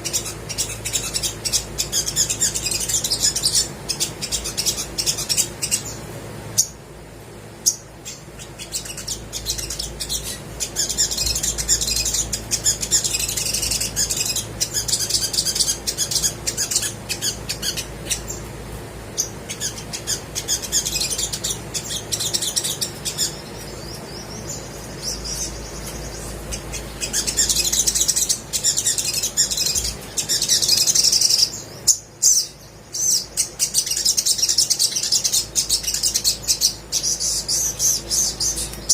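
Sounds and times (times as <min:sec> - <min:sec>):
sunbird chirping and trilling: 0:00.0 - 0:38.9.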